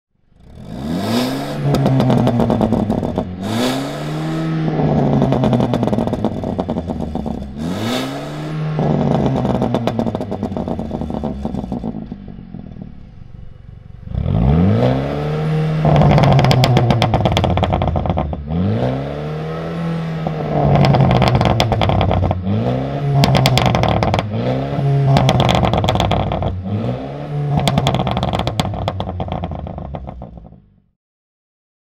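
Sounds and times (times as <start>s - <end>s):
car engine revving: 0.2s - 30.8s
exhaust crackling pops: 0.4s - 14.3s, 14.9s - 30.8s.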